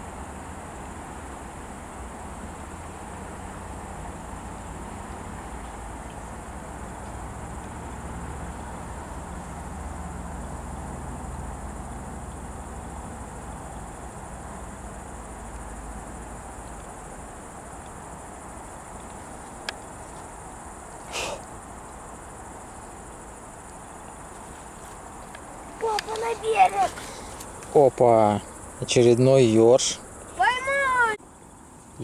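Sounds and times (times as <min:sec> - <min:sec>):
crickets chirring: 0:00.0 - 0:32.0.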